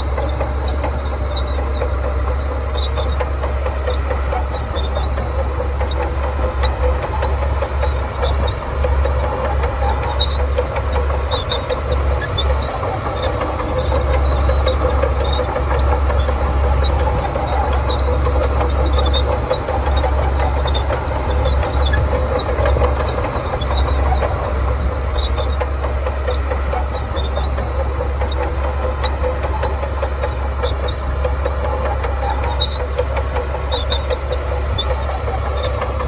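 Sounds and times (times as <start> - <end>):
bulldozer diesel engine droning: 0.0 - 36.0.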